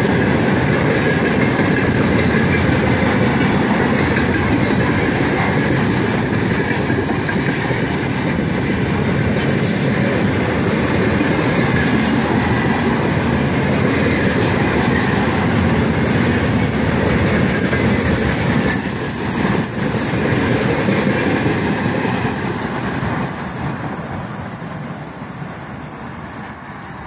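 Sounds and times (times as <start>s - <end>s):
freight train rolling past: 0.0s - 27.0s
wheels clicking over rail joints: 0.0s - 27.0s.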